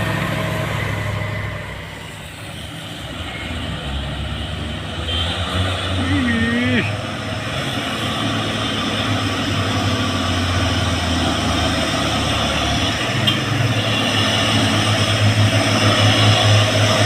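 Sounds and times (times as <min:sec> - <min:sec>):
diesel truck engine labouring: 0:00.0 - 0:17.0.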